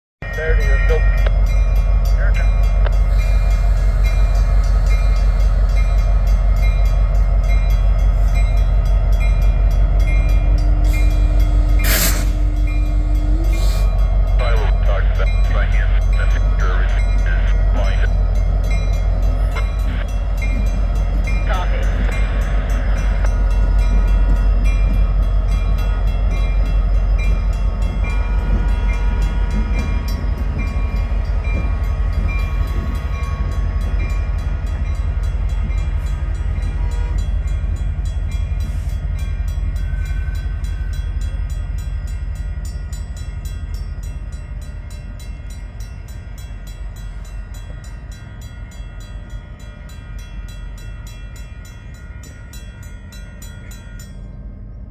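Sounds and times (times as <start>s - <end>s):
diesel locomotive rumbling past: 0.2s - 54.9s.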